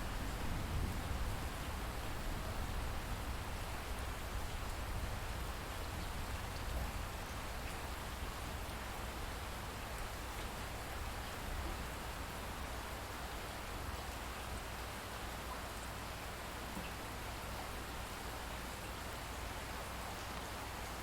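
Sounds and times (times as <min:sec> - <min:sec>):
light rainfall: 0:00.0 - 0:21.0.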